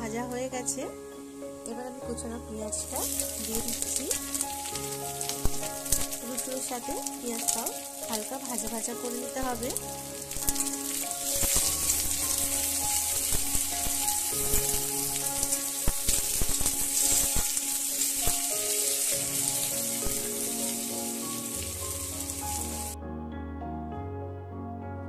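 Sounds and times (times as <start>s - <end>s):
onion sizzling in hot oil: 0.0s - 23.0s
soft background music: 0.0s - 25.0s.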